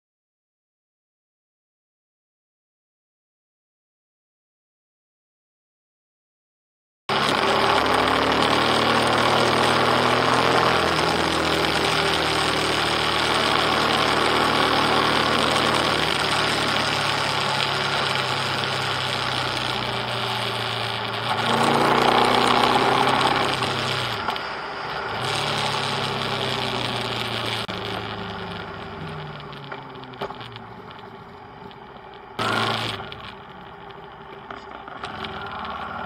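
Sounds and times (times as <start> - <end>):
motorcycle engine running: 7.1 - 36.0.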